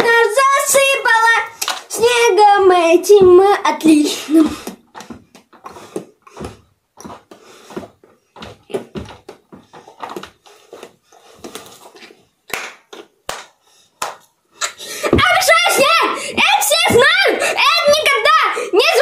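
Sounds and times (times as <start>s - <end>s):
footsteps dancing on floor: 0.0s - 17.1s.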